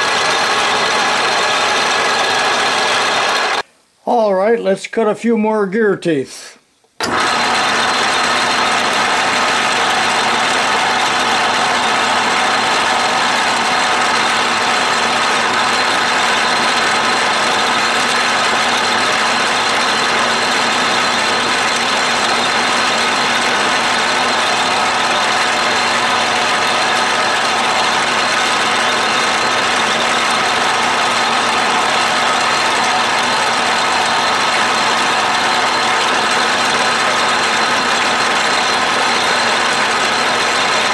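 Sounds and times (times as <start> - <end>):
lathe milling steel: 0.0 - 3.6, 7.0 - 40.9.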